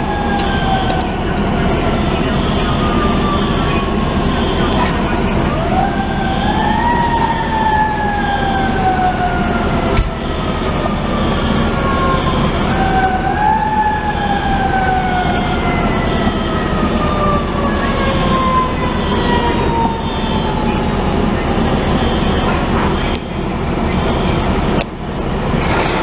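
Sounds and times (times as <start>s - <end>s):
fire truck siren wailing: 0.0s - 26.0s.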